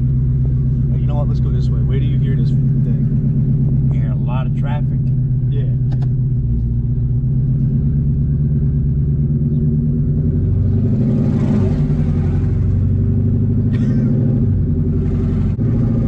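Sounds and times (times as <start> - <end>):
deep car engine drone: 0.0 - 16.0.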